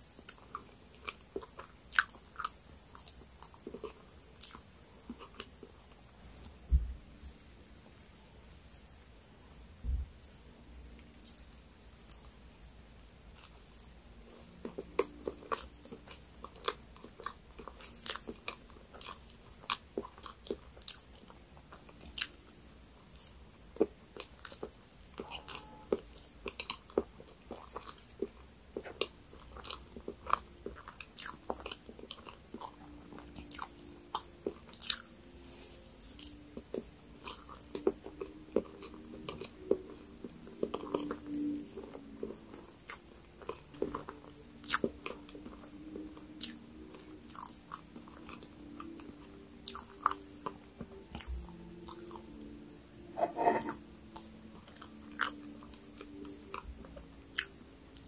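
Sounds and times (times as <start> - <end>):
chewing soft cake: 0.0 - 6.8, 9.5 - 58.0.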